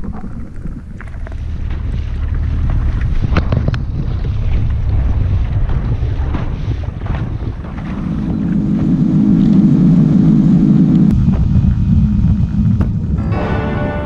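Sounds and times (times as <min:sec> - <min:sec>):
wind buffeting microphone: 0:00.0 - 0:13.4
boat motor droning: 0:01.4 - 0:14.0.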